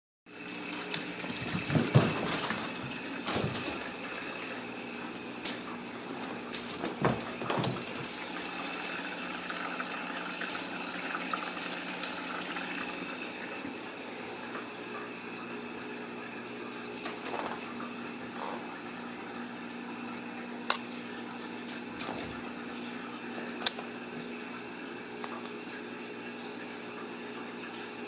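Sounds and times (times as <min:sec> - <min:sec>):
household hum and hiss: 0:00.3 - 0:28.0.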